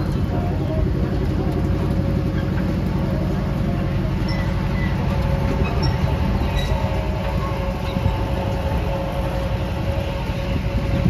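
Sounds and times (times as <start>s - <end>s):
miniature train rumbling: 0.0s - 11.0s.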